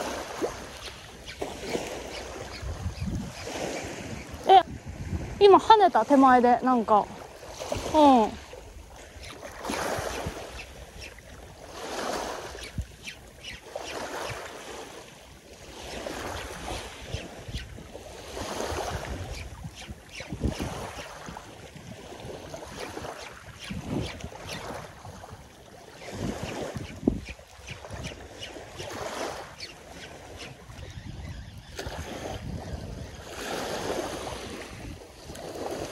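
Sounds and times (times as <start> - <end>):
small waves washing on beach: 0.0 - 35.9
wind on microphone: 0.0 - 35.9.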